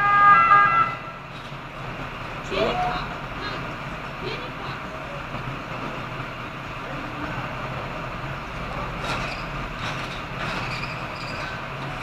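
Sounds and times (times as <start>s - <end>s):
vehicle engine rumbling: 0.4s - 12.0s.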